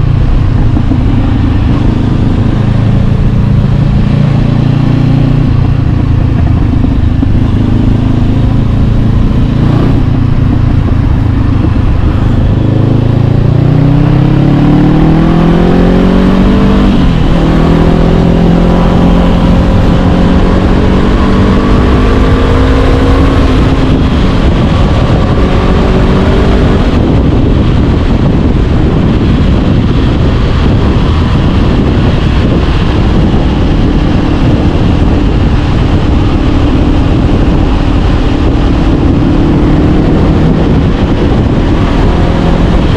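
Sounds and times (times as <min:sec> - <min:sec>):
motorcycle engine accelerating: 0:00.0 - 0:42.9
wind noise: 0:00.0 - 0:42.9.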